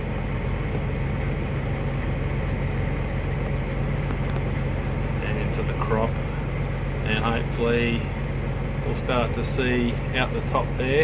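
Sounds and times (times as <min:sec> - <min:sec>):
tractor engine drone from cab: 0:00.0 - 0:11.0.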